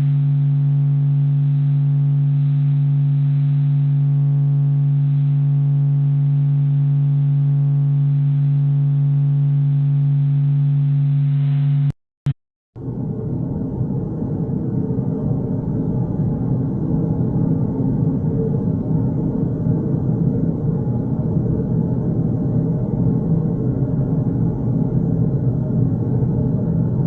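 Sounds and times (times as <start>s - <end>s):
low electronic drone: 0.0s - 11.9s, 12.8s - 27.0s.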